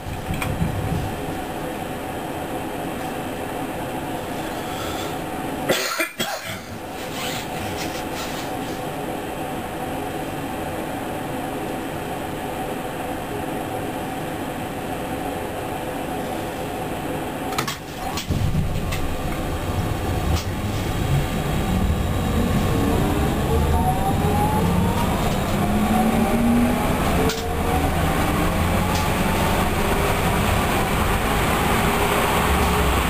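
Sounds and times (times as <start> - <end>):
train low rumble pulling away: 0.0 - 5.7, 6.6 - 33.0
train drive humming: 0.0 - 33.0.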